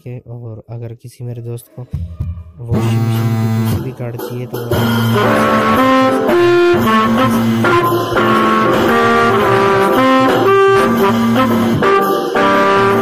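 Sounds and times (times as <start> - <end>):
instrumental music with held notes: 1.7 - 13.0.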